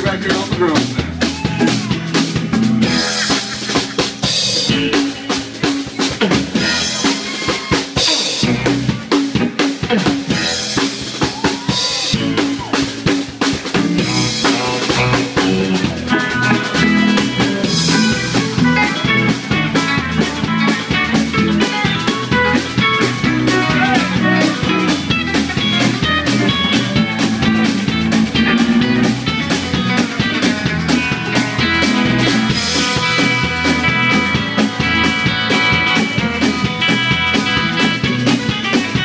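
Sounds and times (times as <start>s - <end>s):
rock band playing instrumental: 0.0s - 39.0s.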